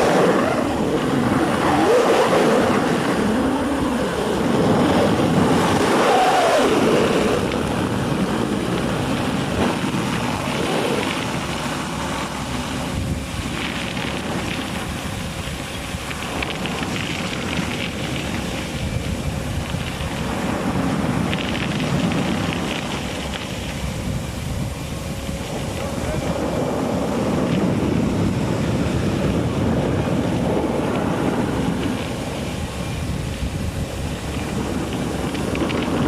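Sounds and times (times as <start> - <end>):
vacuum excavator rushing: 0.0 - 36.0.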